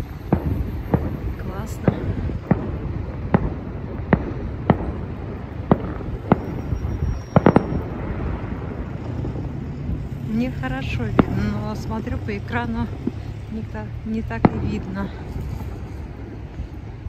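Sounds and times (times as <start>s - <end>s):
fireworks bangs: 0.0s - 17.0s
low background rumble: 0.0s - 17.0s.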